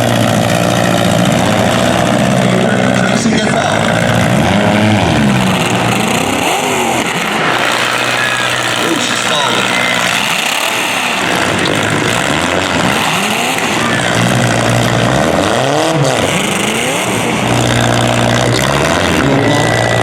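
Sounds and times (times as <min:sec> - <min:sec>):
car engines running: 0:00.0 - 0:20.0
engine revving: 0:00.0 - 0:20.0.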